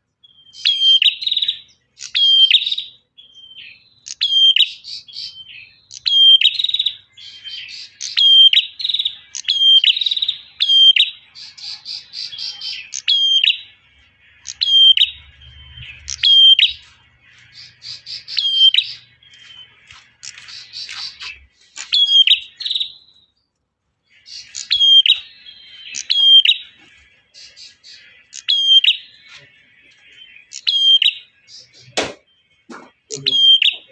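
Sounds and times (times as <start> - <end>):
bird chirping call: 0.0 - 33.9
bird trills: 0.2 - 33.9.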